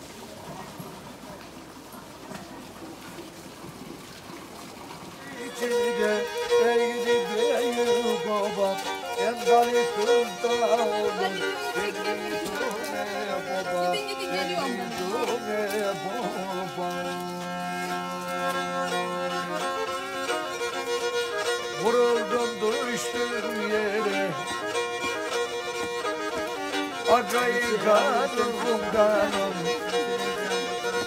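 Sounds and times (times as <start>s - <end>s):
bowed fiddle playing folk tune: 5.0s - 31.0s.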